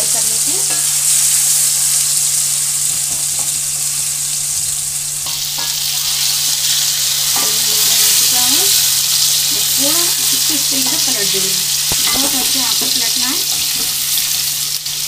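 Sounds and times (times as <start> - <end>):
cheese frying in hot oil: 0.0 - 15.0.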